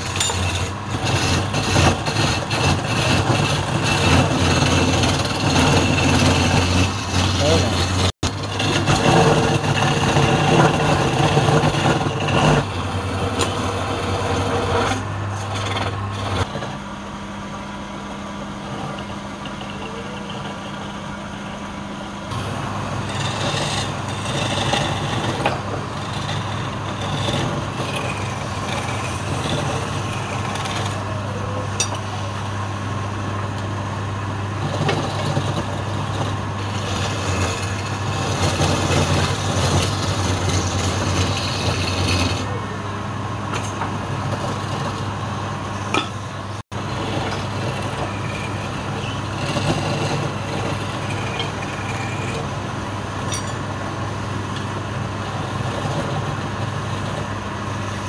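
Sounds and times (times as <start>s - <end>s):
tool rasping spinning wood: 0.0s - 16.9s, 22.2s - 58.0s
wood lathe motor hum: 0.0s - 58.0s.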